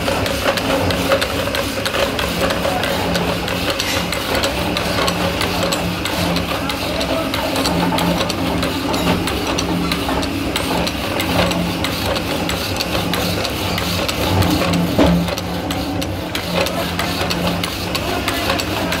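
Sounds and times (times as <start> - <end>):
power hacksaw cutting metal: 0.0 - 19.0
steady machine hum: 0.0 - 19.0.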